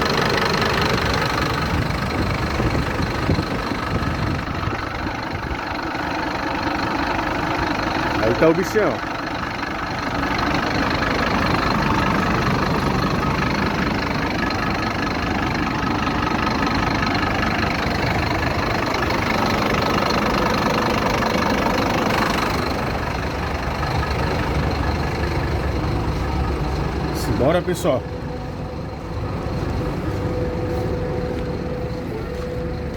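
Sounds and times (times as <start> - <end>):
bus diesel engine idling: 0.0 - 32.9.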